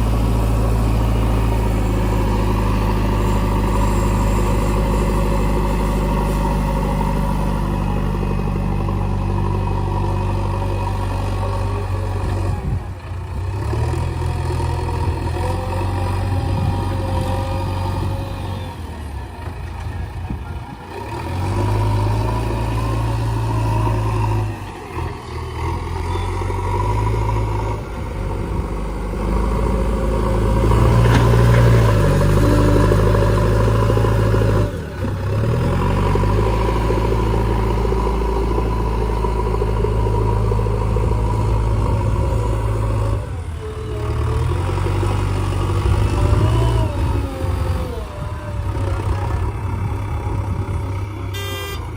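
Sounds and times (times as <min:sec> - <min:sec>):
heavy diesel engines revving: 0:00.0 - 0:51.9.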